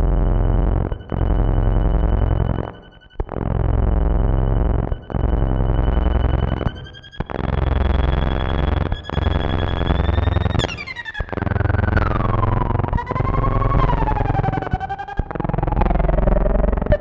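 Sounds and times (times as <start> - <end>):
metallic buzzing synthesizer: 0.0 - 16.6.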